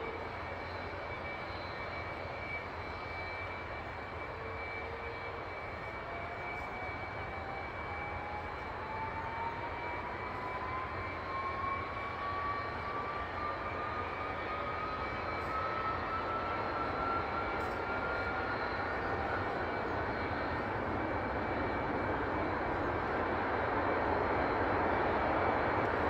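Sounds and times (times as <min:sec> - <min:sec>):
jet engine whine: 0:00.0 - 0:26.0.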